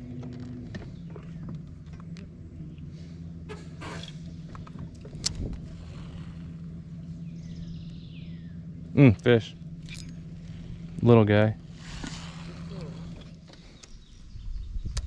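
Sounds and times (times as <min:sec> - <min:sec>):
electric trolling motor hum: 0:00.0 - 0:14.4.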